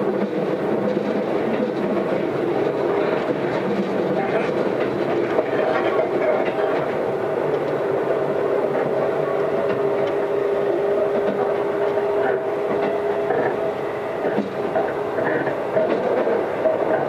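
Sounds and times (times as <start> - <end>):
train wheel-on-rail noise: 0.0 - 17.0.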